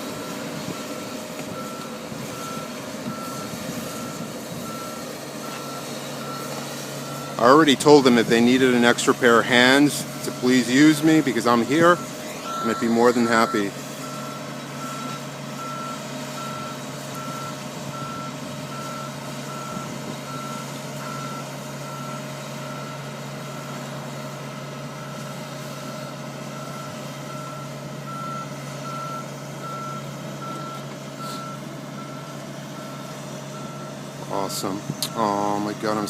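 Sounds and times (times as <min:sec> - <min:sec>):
diesel engine running: 0:00.0 - 0:36.0
vehicle reversing alarm beeping: 0:00.0 - 0:36.0.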